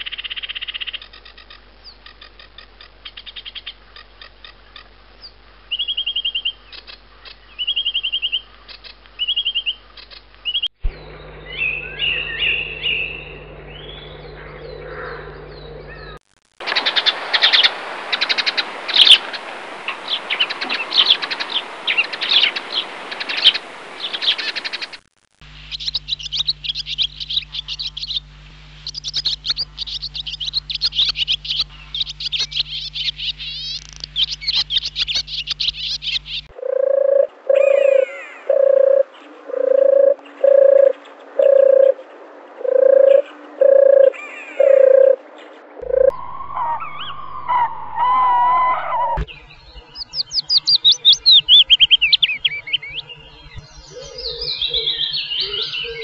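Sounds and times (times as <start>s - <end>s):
songbirds chirping and singing: 0.0s - 24.9s, 25.5s - 36.5s, 37.1s - 56.0s.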